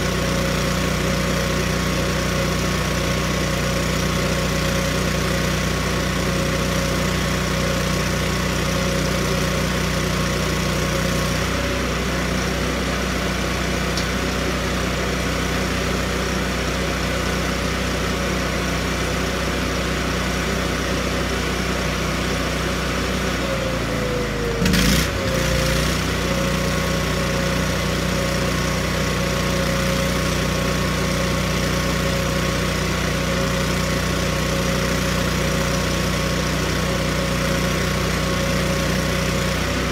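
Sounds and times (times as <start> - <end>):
gasoline engine running: 0.0 - 39.9.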